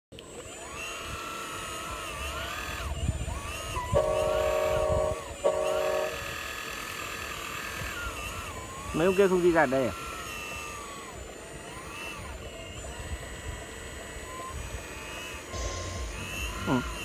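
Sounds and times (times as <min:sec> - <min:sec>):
hydraulic pump whining: 0:00.2 - 0:17.0.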